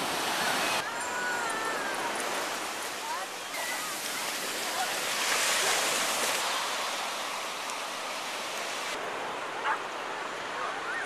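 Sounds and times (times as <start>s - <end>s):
beach ambience: 0.0s - 11.0s
surf washing through shallow water: 0.0s - 11.0s.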